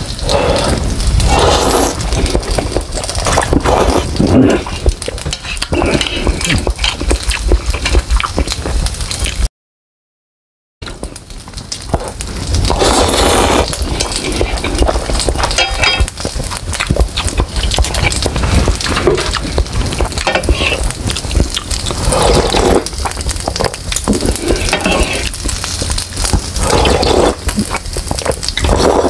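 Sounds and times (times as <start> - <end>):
slurping noodles: 0.0 - 9.4, 12.6 - 25.4, 26.4 - 29.0
wet chewing: 0.0 - 9.5, 10.8 - 29.0.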